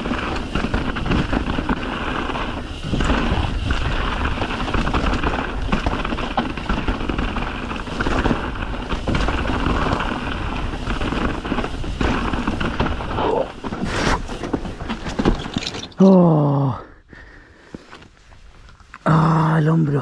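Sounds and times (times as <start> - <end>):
bike rattling: 0.0 - 16.8.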